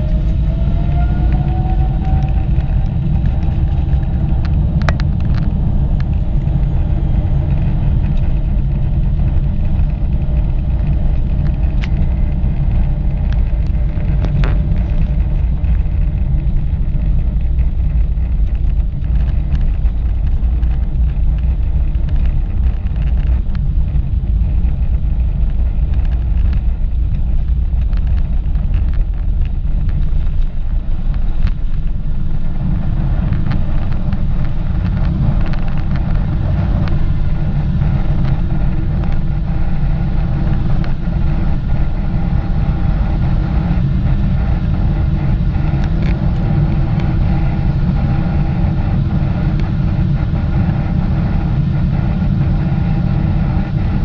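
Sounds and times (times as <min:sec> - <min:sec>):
jet engines roaring: 0:00.0 - 0:19.8, 0:28.3 - 0:54.0.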